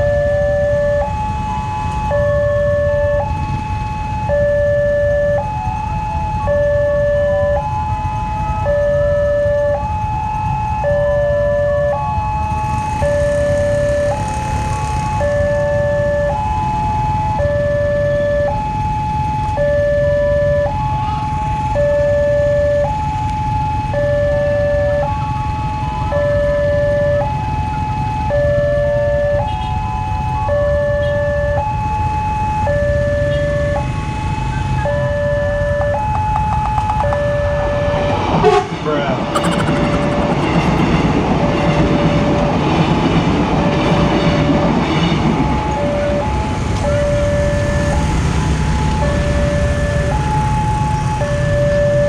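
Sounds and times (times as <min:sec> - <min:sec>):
level crossing two-tone alarm: 0:00.0 - 0:29.7, 0:30.4 - 0:38.6, 0:39.3 - 0:40.8, 0:45.3 - 0:48.1, 0:48.8 - 0:52.0.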